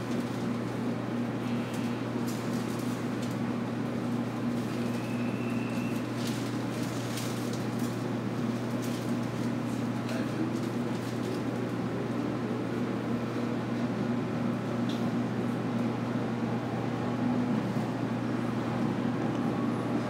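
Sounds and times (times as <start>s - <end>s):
train rumble and hum: 0.0s - 20.0s.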